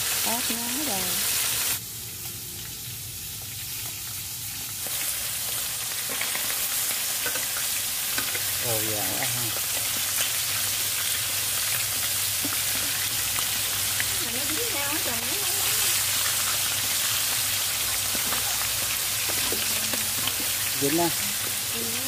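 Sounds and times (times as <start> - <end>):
food deep-frying in hot oil: 0.0 - 22.0
oil popping and crackling: 0.0 - 22.0.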